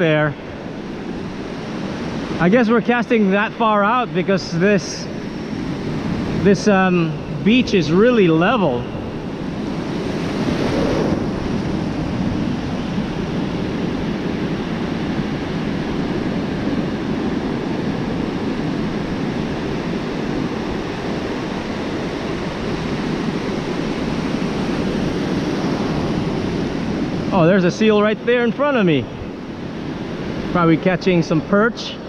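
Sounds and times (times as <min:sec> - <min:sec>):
ocean surf washing onto beach: 0:00.0 - 0:32.0
wind noise on microphone: 0:00.0 - 0:32.0.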